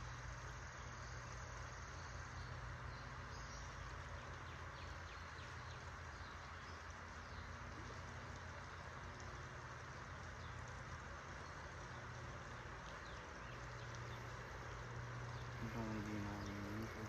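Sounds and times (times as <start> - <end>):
creek water rushing: 2.6 - 17.0.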